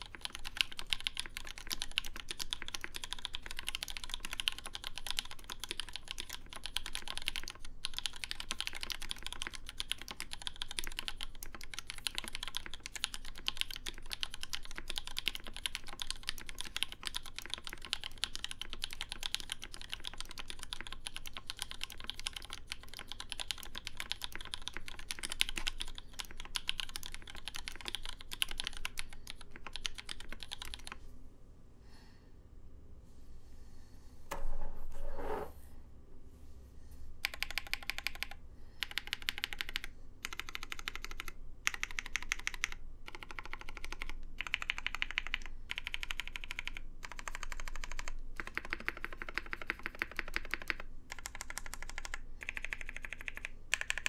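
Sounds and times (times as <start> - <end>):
mechanical keyboard typing: 0.0 - 31.0, 37.2 - 54.0.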